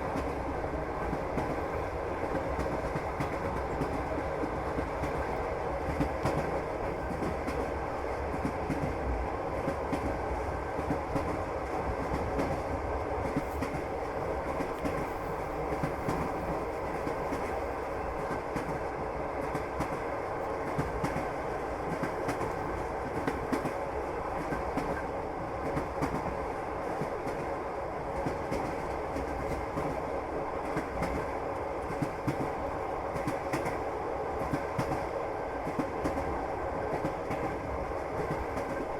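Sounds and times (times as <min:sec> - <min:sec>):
train wheels clacking: 0:00.0 - 0:09.0, 0:10.8 - 0:27.5, 0:28.1 - 0:38.9
train rumble: 0:00.0 - 0:38.9.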